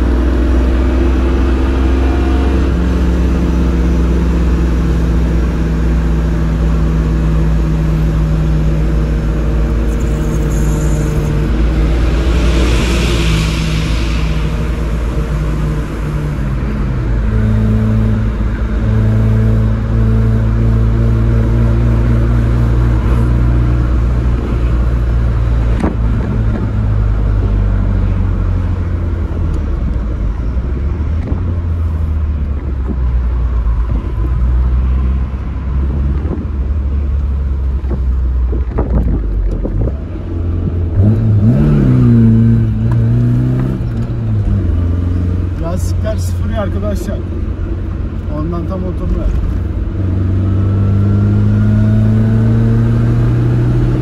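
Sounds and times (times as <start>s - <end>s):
car engine running and revving: 0.0s - 54.0s.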